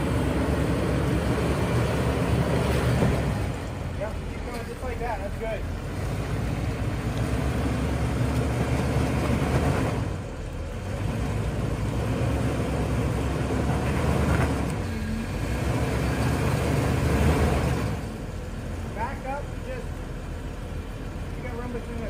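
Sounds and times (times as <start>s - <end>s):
engine working under load: 0.0s - 22.0s.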